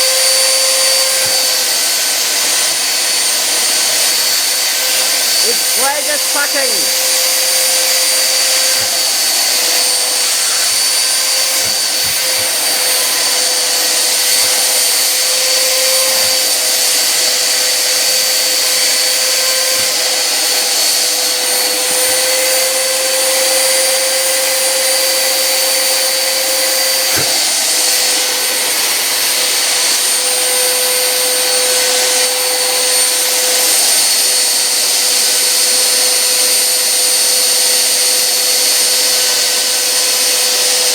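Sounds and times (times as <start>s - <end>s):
vacuum cleaners running: 0.0s - 40.9s.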